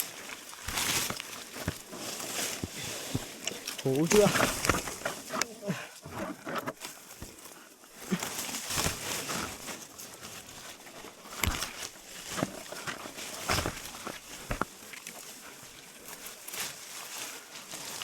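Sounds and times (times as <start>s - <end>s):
branches knocking and snapping: 0.0s - 18.0s
leaves and branches rustling: 0.0s - 18.0s.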